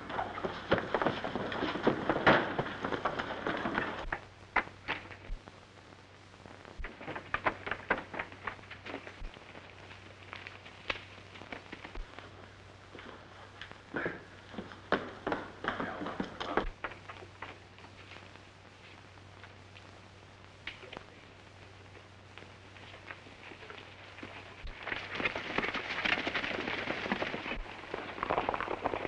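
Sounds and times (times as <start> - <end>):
horses hooves clopping: 0.0 - 5.4, 6.8 - 19.5, 21.7 - 29.0
film soundtrack hum and crackle: 0.0 - 29.0.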